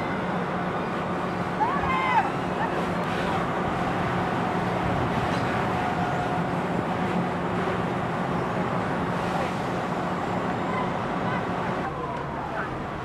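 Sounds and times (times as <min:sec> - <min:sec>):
large vehicle engine humming: 0:00.0 - 0:13.0
road traffic noise: 0:00.0 - 0:13.0.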